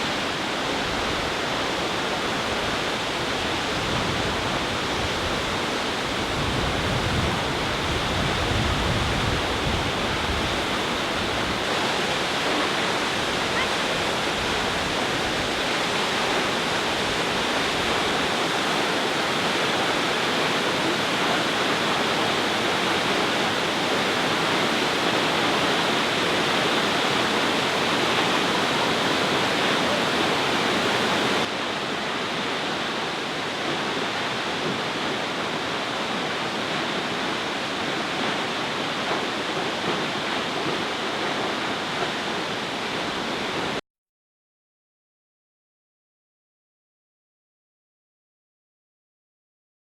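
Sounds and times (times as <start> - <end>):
waterfall rushing: 0.0 - 43.8.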